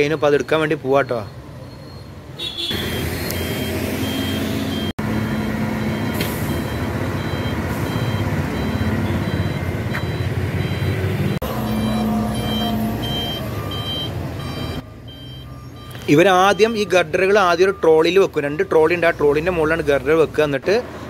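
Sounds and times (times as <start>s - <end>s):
reversing alarm beeping: 0.0s - 18.7s
diesel machinery engines running: 2.7s - 21.0s.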